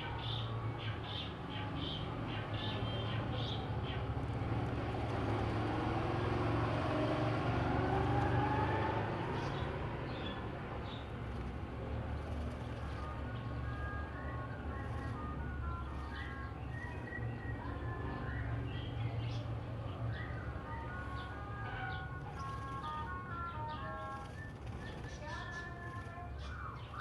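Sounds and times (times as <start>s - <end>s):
vehicle engine driving past: 2.6s - 27.0s.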